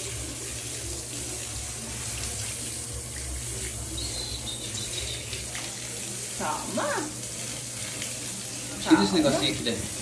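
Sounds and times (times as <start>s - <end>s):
water splashing on tiled floor: 0.0s - 10.0s.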